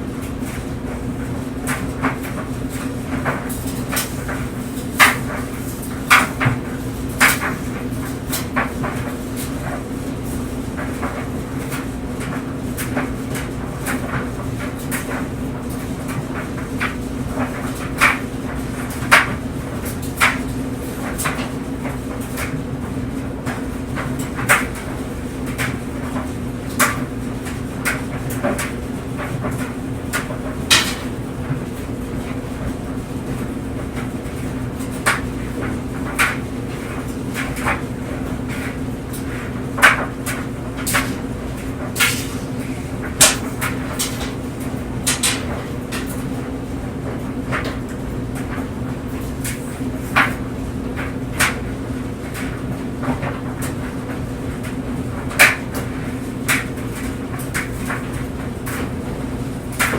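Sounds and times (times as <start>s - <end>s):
clothes dryer humming: 0.0s - 59.9s
clothes knocking in dryer drum: 0.0s - 59.9s.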